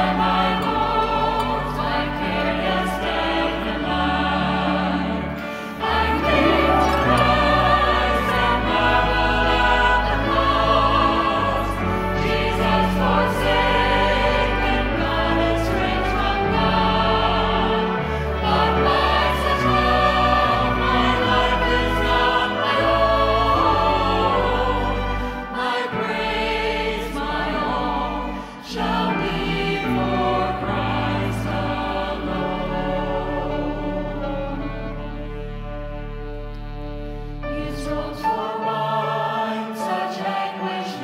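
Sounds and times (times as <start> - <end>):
low instrumental accompaniment: 0.0 - 39.3
choir singing a hymn: 0.0 - 41.0.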